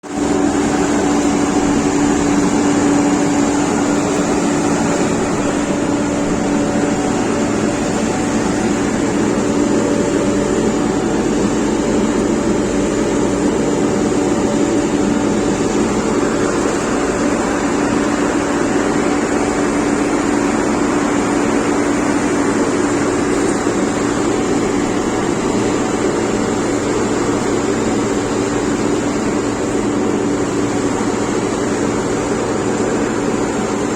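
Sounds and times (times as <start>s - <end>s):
construction machinery engine humming: 0.0s - 33.9s.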